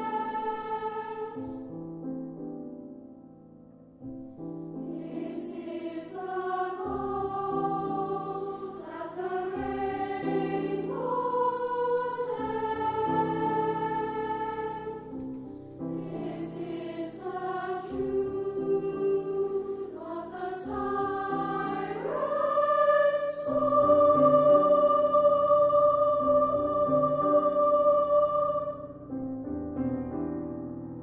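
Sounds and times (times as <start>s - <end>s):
choir singing: 0.0s - 1.8s, 4.8s - 29.2s
piano accompaniment: 0.0s - 31.0s.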